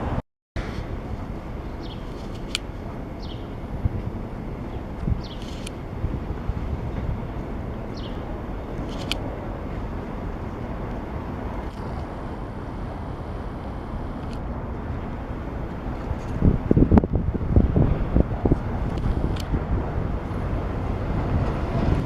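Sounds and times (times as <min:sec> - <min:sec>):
wind: 0:00.0 - 0:22.0
wind buffeting microphone: 0:00.0 - 0:22.0.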